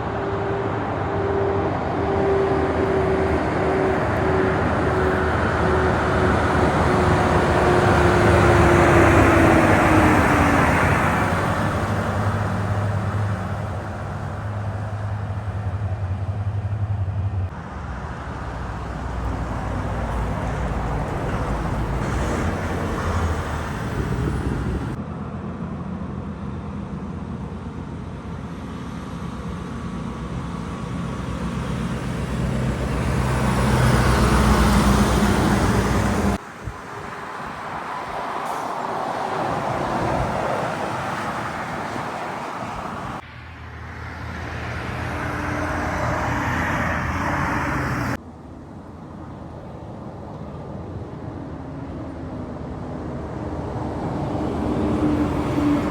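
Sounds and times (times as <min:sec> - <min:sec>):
diesel trucks driving by: 0:00.0 - 0:25.3, 0:27.4 - 0:55.9.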